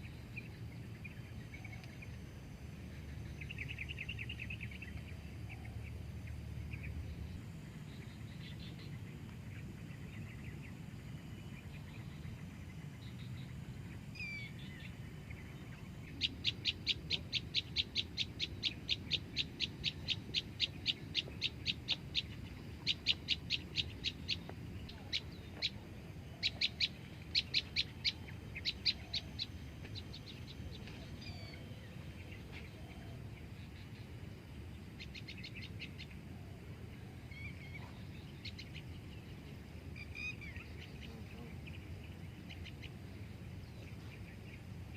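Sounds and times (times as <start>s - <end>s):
faint chirps: 0.0s - 44.9s
low outdoor rumble: 0.0s - 44.9s.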